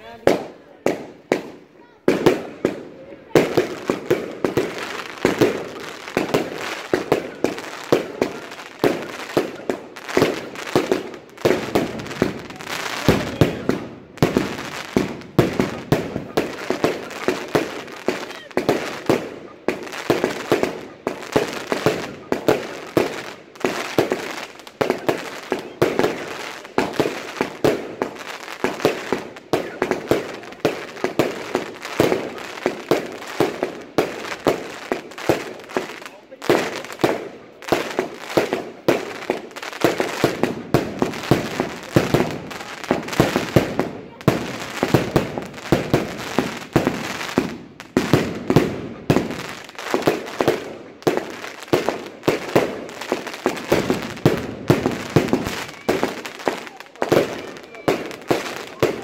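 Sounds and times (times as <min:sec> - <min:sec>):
fireworks volley bangs: 0:00.0 - 0:59.0.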